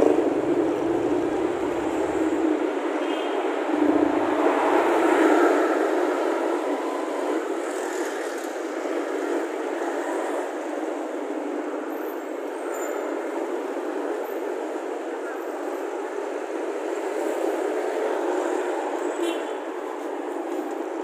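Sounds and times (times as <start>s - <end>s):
traffic road noise: 0.0s - 21.0s.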